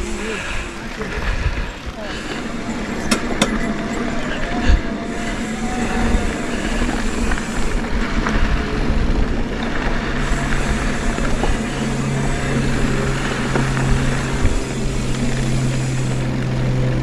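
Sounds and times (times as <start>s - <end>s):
bike rattling: 0.0s - 17.0s
steady low hum: 0.0s - 17.0s
wind rushing over microphone: 0.0s - 17.0s.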